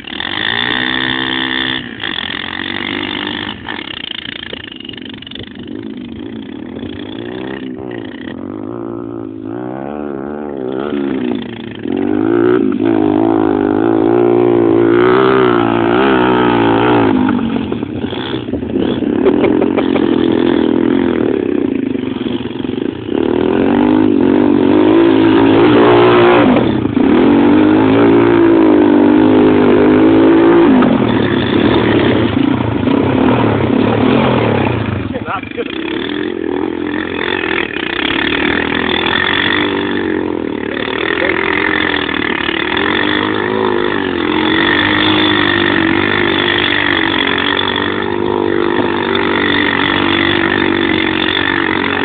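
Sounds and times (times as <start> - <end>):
quad bike engines revving: 0.0 - 52.0.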